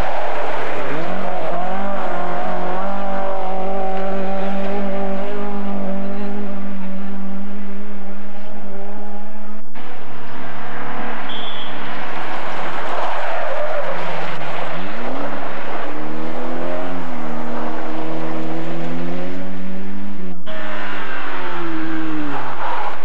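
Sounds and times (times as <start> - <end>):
rally car engines revving: 0.0 - 23.0.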